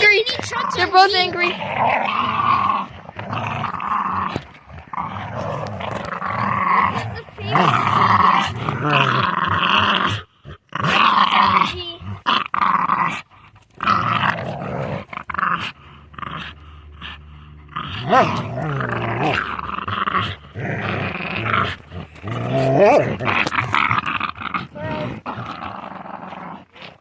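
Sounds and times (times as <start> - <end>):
dogs growling while fighting: 0.0 - 27.0.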